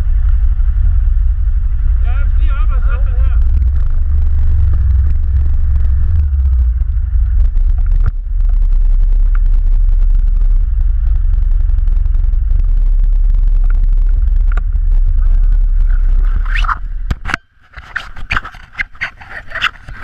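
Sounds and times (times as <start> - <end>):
quad bike engine running: 0.0 - 17.8.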